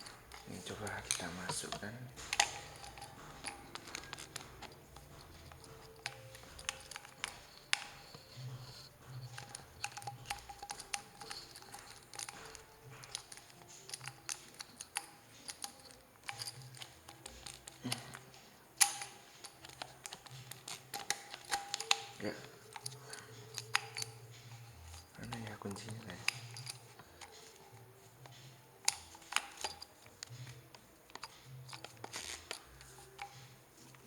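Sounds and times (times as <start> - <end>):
clicks of plastic and metal parts: 0.0 - 34.0
faint background music: 0.0 - 34.0.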